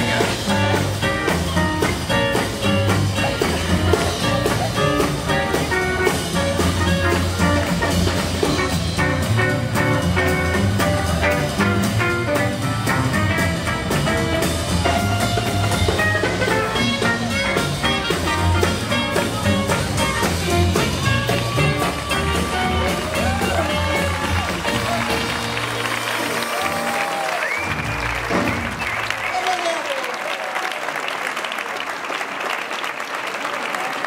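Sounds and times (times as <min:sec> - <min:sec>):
swing jazz band playing: 0:00.0 - 0:29.3.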